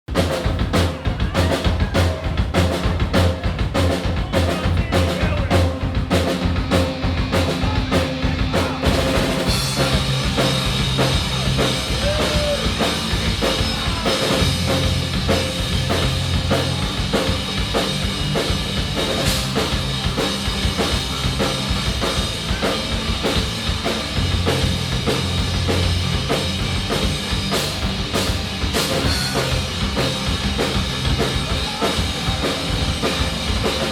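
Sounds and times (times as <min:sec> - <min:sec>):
bass line: 0:00.0 - 0:33.9
drum kit: 0:00.0 - 0:33.9
rock band playing: 0:00.1 - 0:33.9.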